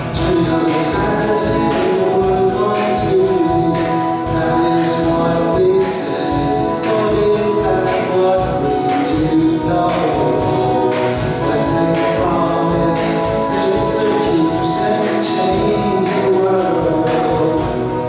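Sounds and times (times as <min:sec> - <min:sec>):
acoustic guitar strumming: 0:00.0 - 0:18.0
keyboard accompaniment: 0:00.0 - 0:18.0
man singing: 0:00.0 - 0:18.0.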